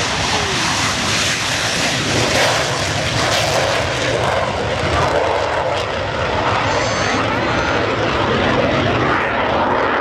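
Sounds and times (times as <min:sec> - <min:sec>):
jet aircraft taking off: 0:00.0 - 0:10.0.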